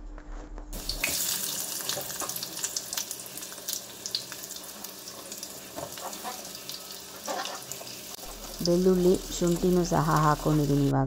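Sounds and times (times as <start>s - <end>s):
onions sizzling in hot oil: 0.8s - 10.9s.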